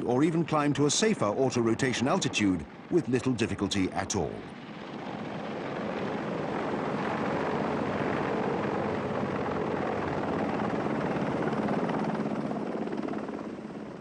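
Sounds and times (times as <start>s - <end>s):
helicopter flying low past: 0.0s - 14.0s.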